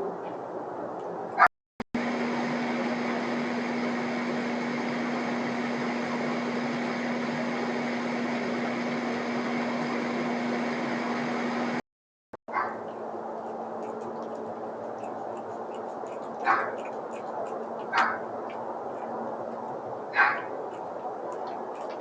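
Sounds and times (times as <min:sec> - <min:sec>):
mechanical hum: 0:02.0 - 0:11.8, 0:12.5 - 0:22.0.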